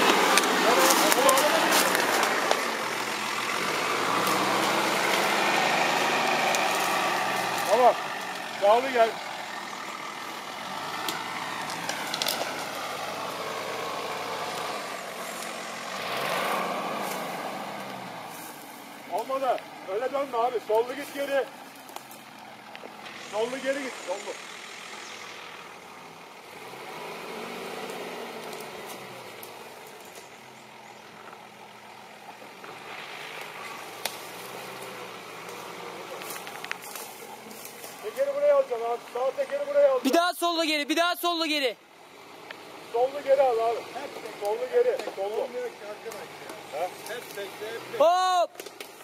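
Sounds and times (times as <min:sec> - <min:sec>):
diesel engine pulling uphill: 0:00.0 - 0:49.0.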